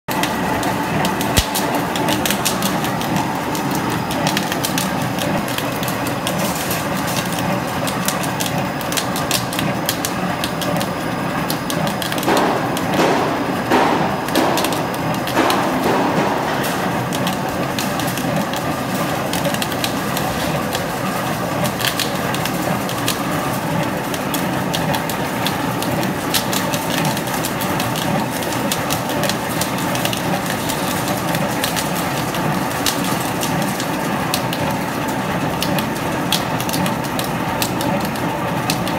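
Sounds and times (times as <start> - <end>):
rapid crackling clicks: 0.1 - 38.9
welding machine running: 0.1 - 38.9.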